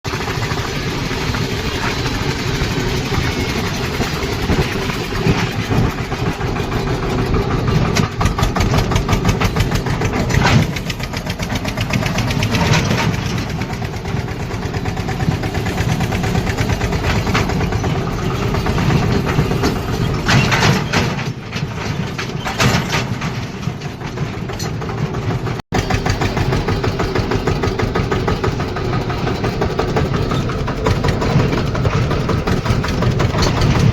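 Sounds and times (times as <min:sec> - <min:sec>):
knocks and rattles over bumps: 0:00.1 - 0:33.9
tractor diesel engine thudding: 0:00.1 - 0:33.9.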